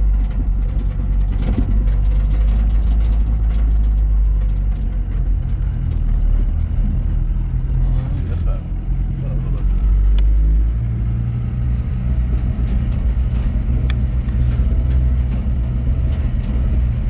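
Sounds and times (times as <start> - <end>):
light knocks and rattles: 0.0 - 17.0
vehicle engine droning: 0.0 - 17.0.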